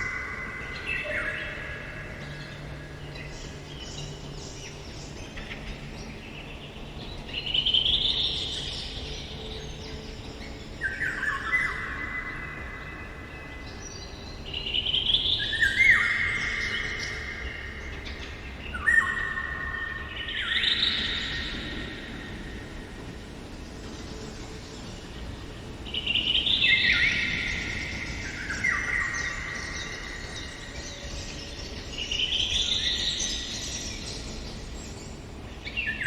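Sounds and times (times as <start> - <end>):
songbirds singing: 0.0 - 36.0.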